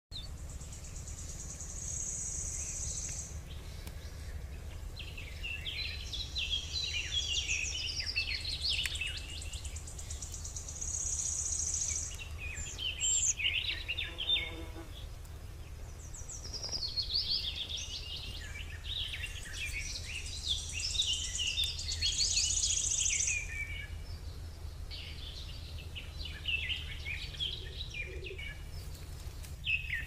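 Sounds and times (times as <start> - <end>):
low background rumble: 0.1 - 14.0, 14.9 - 30.0
small birds chirping: 0.1 - 30.0.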